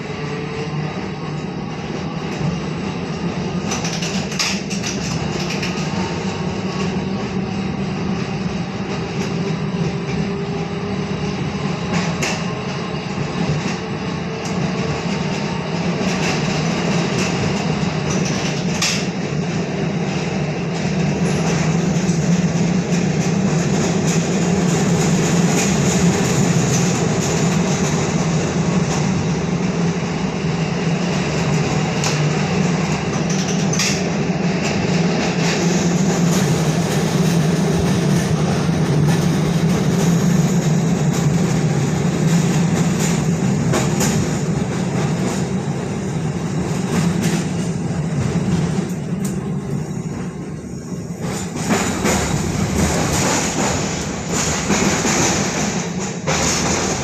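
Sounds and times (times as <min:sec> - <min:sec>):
streetcar rumbling on rails: 0:00.0 - 0:57.0.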